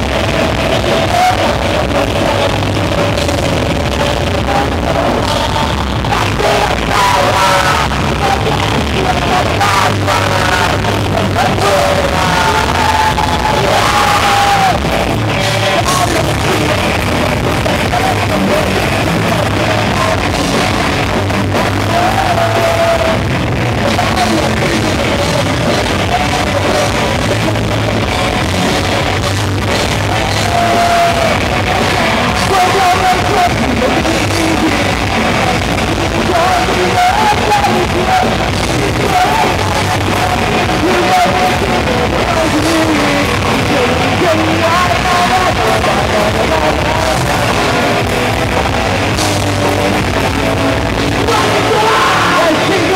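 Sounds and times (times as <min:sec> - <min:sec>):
drums: 0:00.0 - 0:52.9
electric guitars: 0:00.0 - 0:52.9
person singing: 0:00.0 - 0:52.9.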